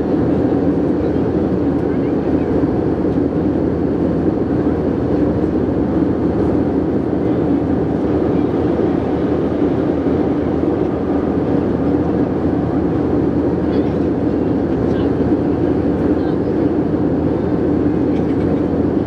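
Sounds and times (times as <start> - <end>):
jet airliner cabin drone: 0.0 - 19.0.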